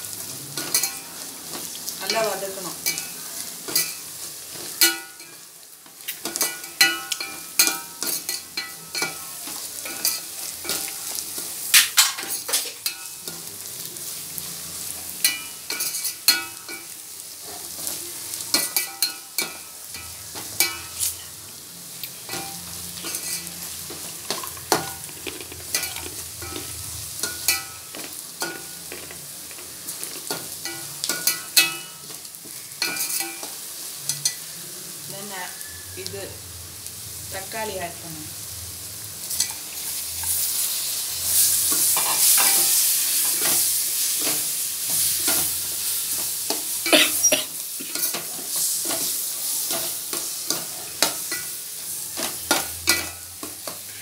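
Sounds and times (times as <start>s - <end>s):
oil sizzling: 0.0s - 54.0s.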